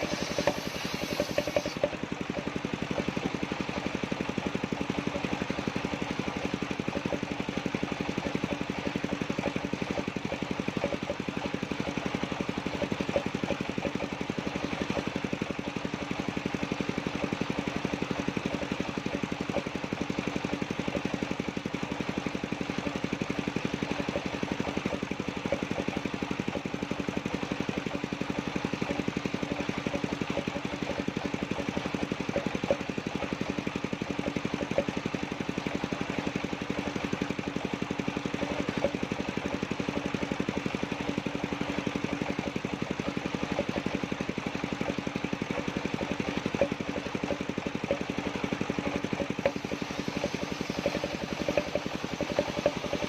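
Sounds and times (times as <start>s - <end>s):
sawmill engine running: 0.0s - 53.0s.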